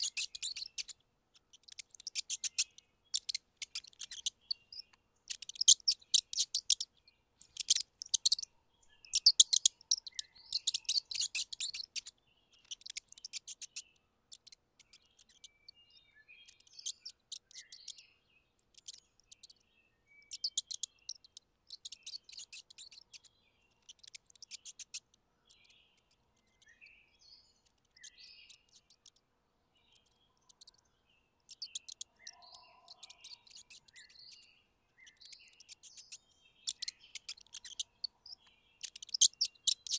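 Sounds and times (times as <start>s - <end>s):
mice squeaking: 0.0s - 39.9s.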